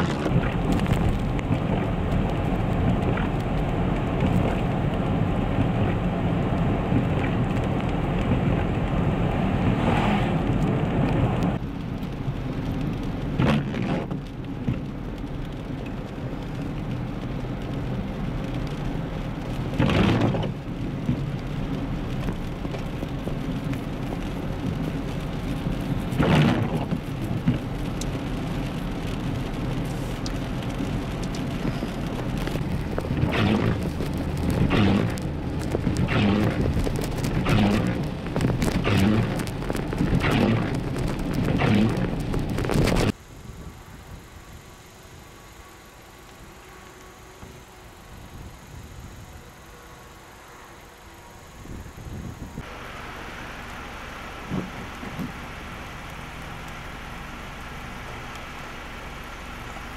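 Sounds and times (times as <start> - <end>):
freezing rain hiss and patter: 0.0 - 59.9.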